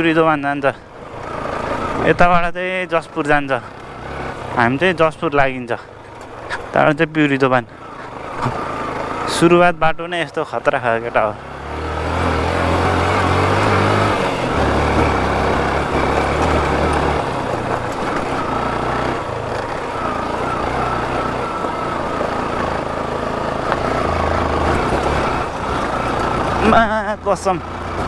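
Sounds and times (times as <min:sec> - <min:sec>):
motorcycle engine running: 0:00.0 - 0:09.8, 0:10.7 - 0:28.0
wind and road noise: 0:00.0 - 0:28.0.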